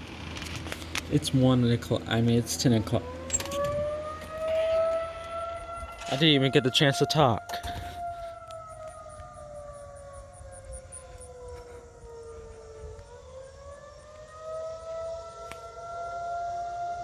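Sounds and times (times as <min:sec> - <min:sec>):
tornado warning siren wailing: 0:00.0 - 0:17.0.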